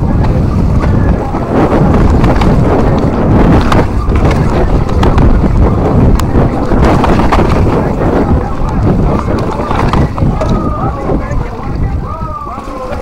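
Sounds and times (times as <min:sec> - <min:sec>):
bike rattling and knocking: 0:00.0 - 0:13.0
tyres rumbling on dirt trail: 0:00.0 - 0:13.0
wind buffeting microphone: 0:00.0 - 0:13.0.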